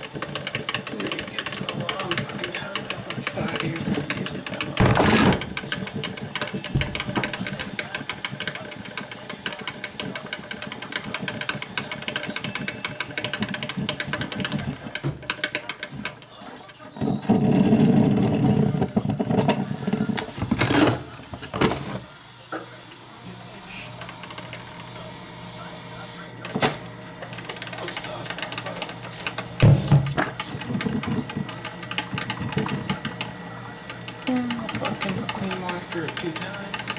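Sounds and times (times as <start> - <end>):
coffee maker crackling and popping: 0.0 - 36.9.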